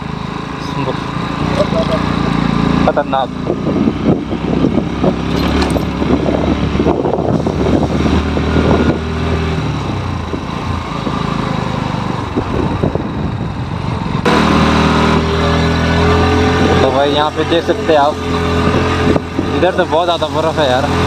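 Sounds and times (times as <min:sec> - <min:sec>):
motorcycle engine running: 0:00.0 - 0:21.0
rumble of rough road: 0:00.0 - 0:21.0.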